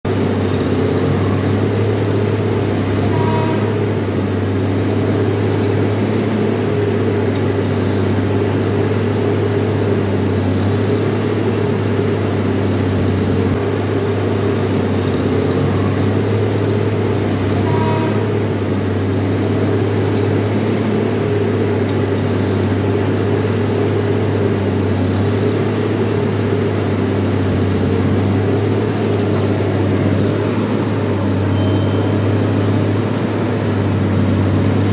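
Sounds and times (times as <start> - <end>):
diesel engine humming: 0.1 - 34.9.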